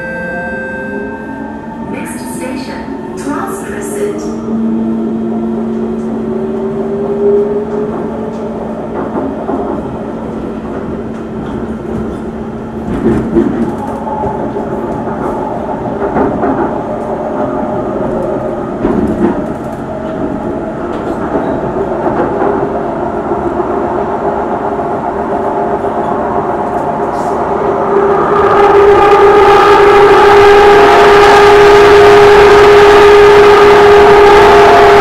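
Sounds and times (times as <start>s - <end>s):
train wheels rumbling on rail: 1.6s - 35.0s.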